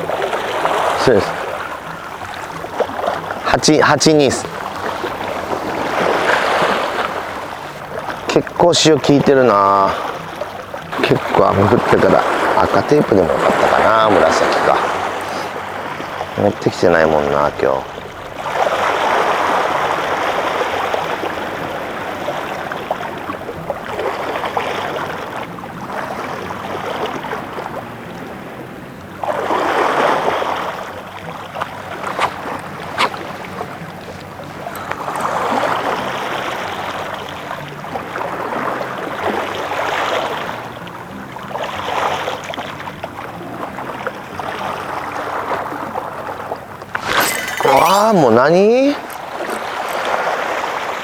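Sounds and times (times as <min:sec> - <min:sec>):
seawater washing against shore: 0:00.0 - 0:51.0.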